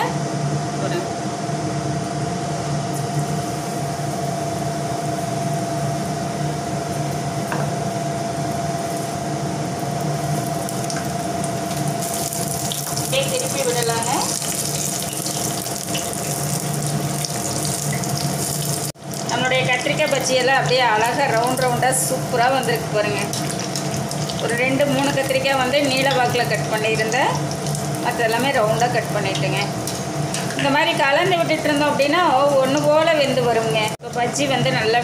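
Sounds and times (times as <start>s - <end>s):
battered slices deep-frying in oil: 2.9s - 35.0s.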